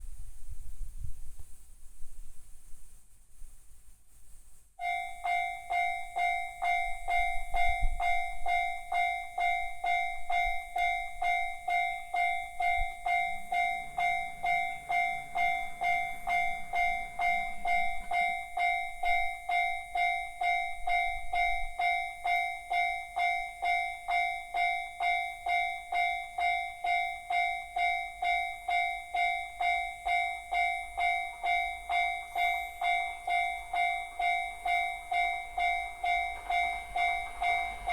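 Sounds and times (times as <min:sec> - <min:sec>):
electronic crossing bell dinging: 0:04.8 - 0:37.9.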